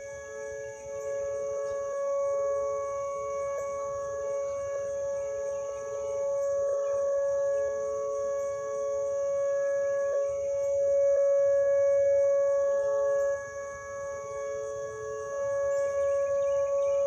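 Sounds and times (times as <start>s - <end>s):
outdoor warning sirens: 0.0s - 17.0s.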